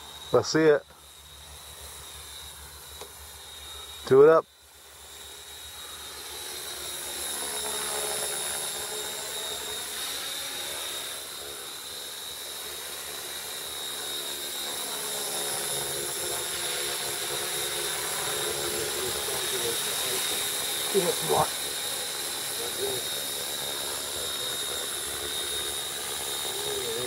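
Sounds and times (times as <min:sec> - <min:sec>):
rc aircraft motor whine: 0:00.0 - 0:27.0.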